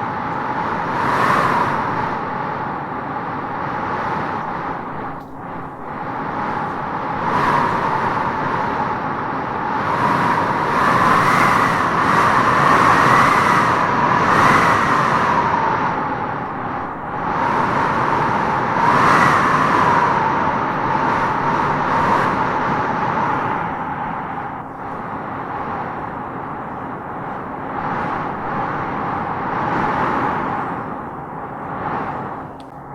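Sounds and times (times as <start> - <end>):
wind howling through trees: 0.0 - 32.9.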